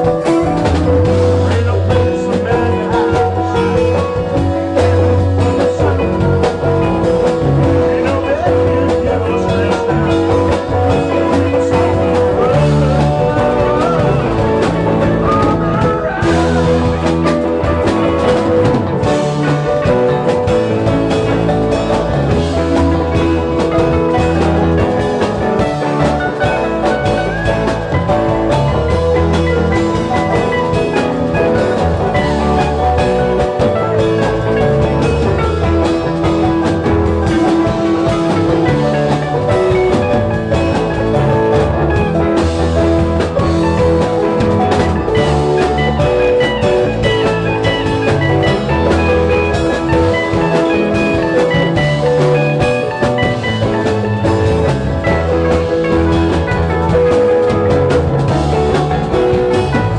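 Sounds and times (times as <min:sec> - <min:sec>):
lead guitar bending notes: 0:00.0 - 0:59.9
live rock band playing: 0:00.0 - 0:59.9.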